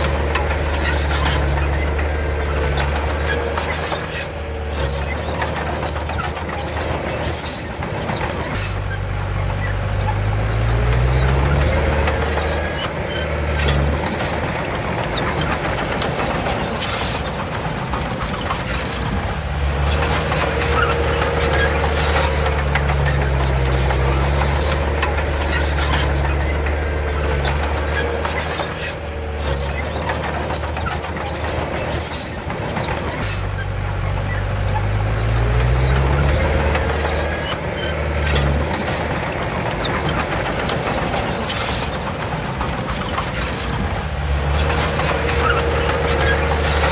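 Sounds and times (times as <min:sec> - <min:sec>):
bulldozer diesel engine: 0:00.0 - 0:46.9
steel tracks clattering: 0:00.0 - 0:46.9.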